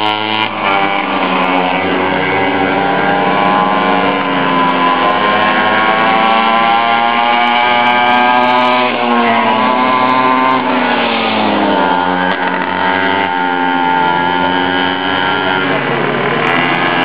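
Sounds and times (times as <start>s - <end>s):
bike passing close: 0.0s - 17.0s
two-stroke engines revving: 0.0s - 17.0s.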